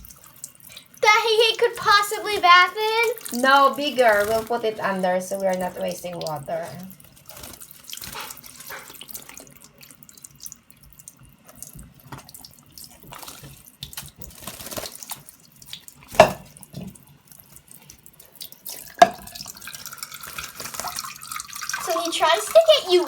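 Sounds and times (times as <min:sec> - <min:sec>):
tap water running into sink: 0:00.0 - 0:23.0.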